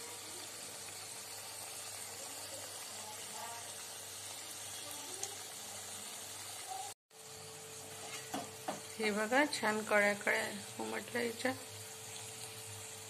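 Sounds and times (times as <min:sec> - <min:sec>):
pastry deep-frying in oil: 0:00.0 - 0:13.0.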